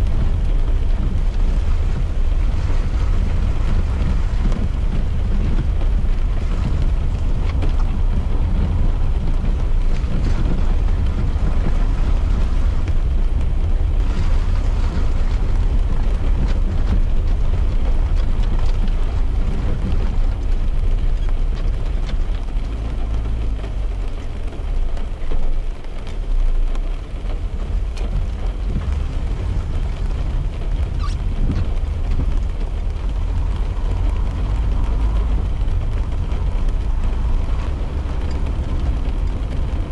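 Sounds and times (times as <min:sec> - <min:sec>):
car road and engine rumble: 0:00.0 - 0:39.9
rain hitting car glass: 0:00.0 - 0:39.9.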